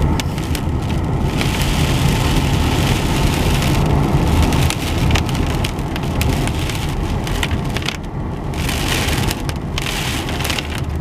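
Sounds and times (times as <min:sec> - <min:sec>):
tyres rumbling on bumpy road: 0:00.0 - 0:11.0.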